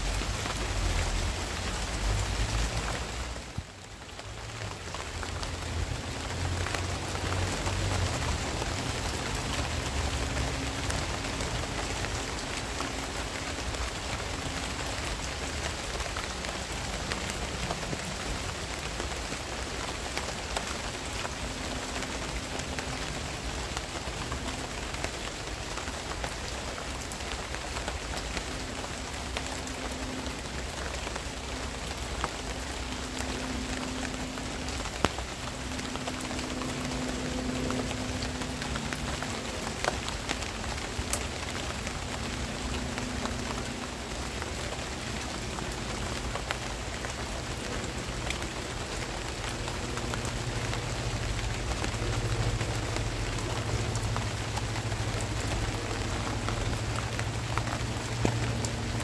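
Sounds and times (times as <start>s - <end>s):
rain falling on plants: 0.0s - 59.0s.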